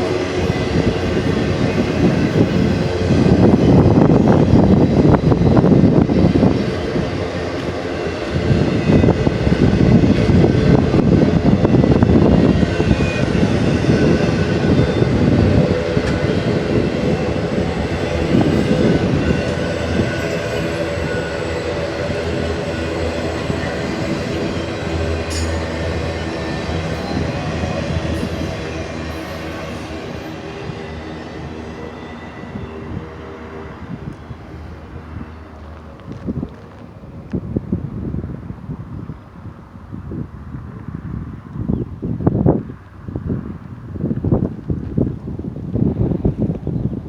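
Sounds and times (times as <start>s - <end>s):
freight train rumbling past: 0.0s - 47.0s.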